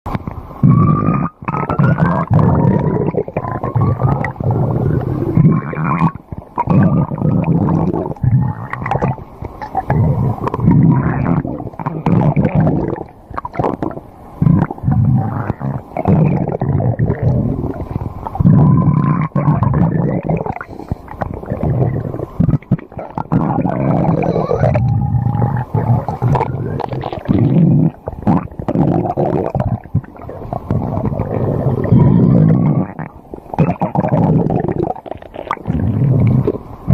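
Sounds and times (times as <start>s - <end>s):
stomach growling: 0.1s - 36.9s.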